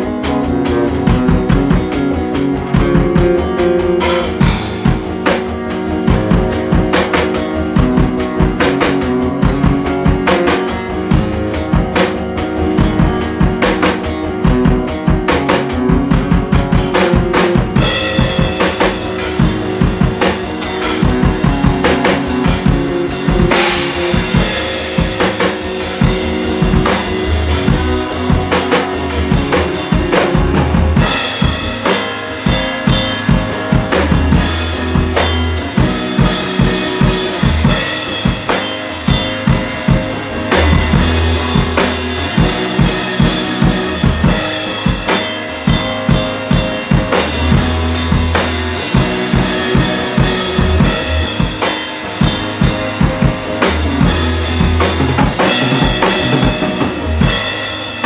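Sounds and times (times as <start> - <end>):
drum kit beat: 0.0 - 58.0
electric guitar playing: 0.0 - 58.0.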